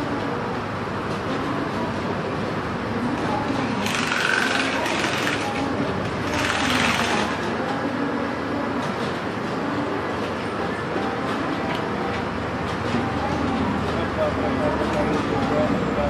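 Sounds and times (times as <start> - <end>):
crane mechanical running noise: 0.0 - 16.0.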